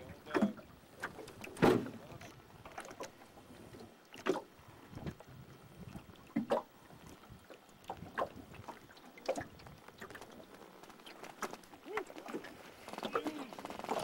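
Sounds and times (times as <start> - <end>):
water slapping boat hull: 0.0 - 14.0.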